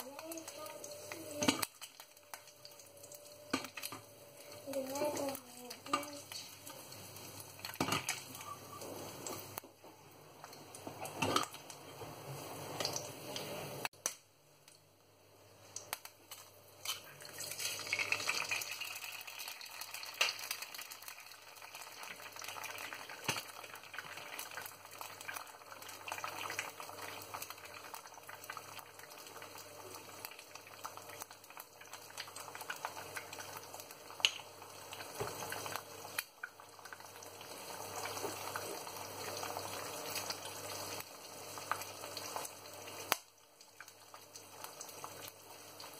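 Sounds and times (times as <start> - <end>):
eggs sizzling in oil: 0.0 - 45.9.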